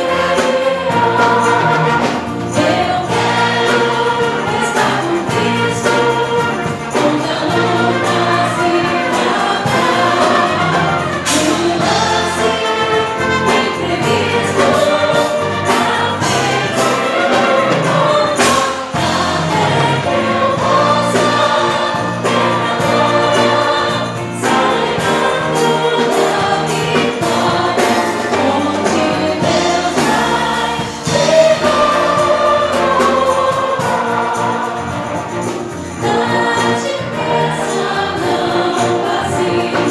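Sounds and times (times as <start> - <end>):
band accompaniment: 0.0 - 39.9
choir singing gospel music: 0.0 - 39.9.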